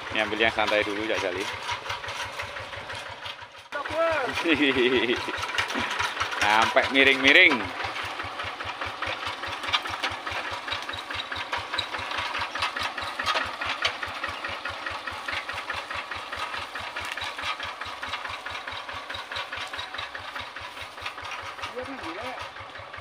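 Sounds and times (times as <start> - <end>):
hand tractor engine running: 0.0 - 23.0.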